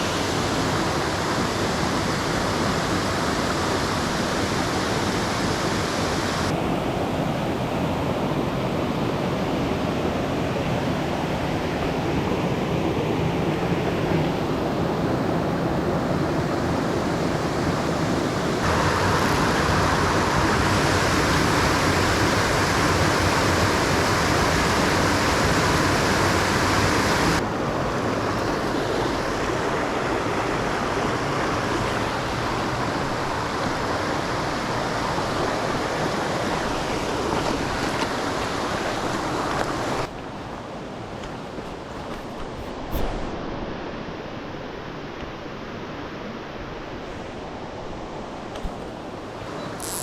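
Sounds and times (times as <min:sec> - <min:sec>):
rushing mountain torrent: 0:00.0 - 0:50.0.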